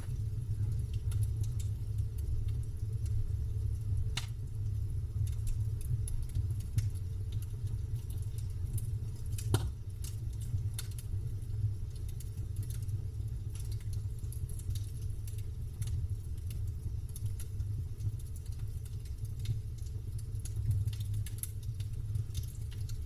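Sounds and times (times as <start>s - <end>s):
campfire crackling: 0.0s - 23.0s
low fire rumble: 0.0s - 23.0s.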